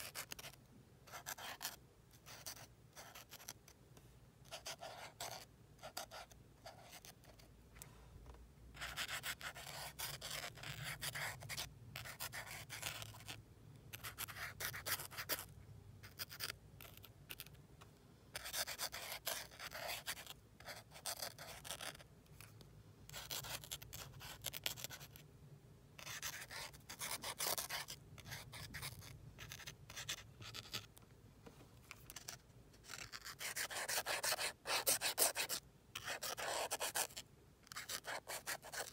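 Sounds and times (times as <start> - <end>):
marker scratching on paper: 0.0 - 3.6, 4.4 - 7.5, 8.8 - 17.5, 18.4 - 22.5, 23.1 - 25.2, 26.0 - 31.0, 31.9 - 38.9.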